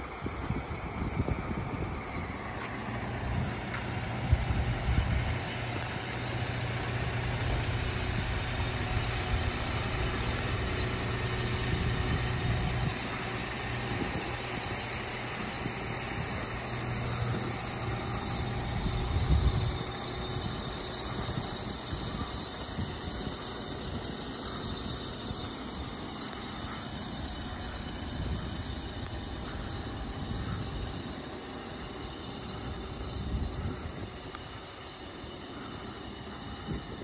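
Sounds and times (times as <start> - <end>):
wind buffeting microphone: 0.0 - 35.0
diesel engine idling: 0.0 - 37.0.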